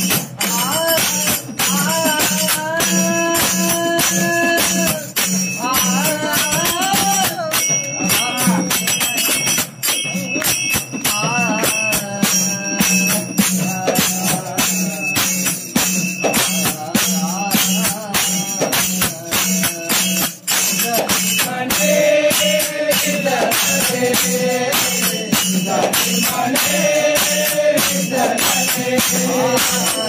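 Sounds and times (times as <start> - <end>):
jingling hand percussion: 0.0 - 30.0.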